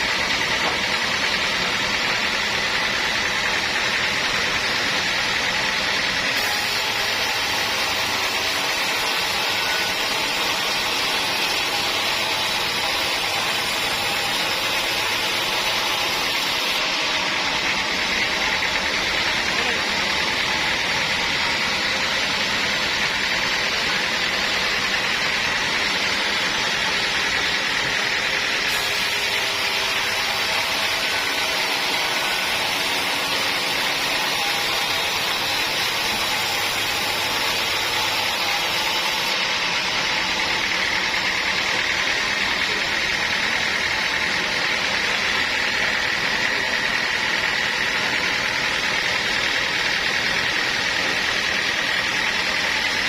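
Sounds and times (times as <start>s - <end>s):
high machine whine: 0.0s - 53.0s
sawmill machinery din: 0.0s - 53.0s.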